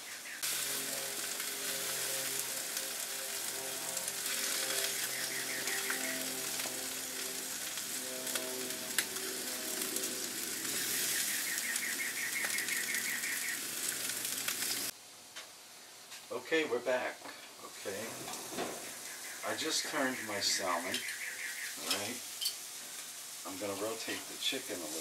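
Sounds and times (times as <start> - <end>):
food sizzling on a grill: 0.0 - 25.0.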